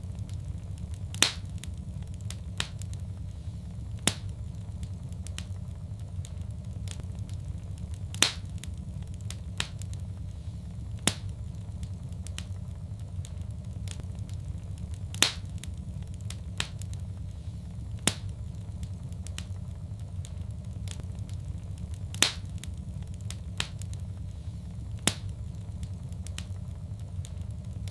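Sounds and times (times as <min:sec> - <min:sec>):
low rumble of flames: 0:00.0 - 0:27.9
sharp pops of burning wood: 0:00.0 - 0:27.9
wood fire crackling: 0:00.0 - 0:27.9.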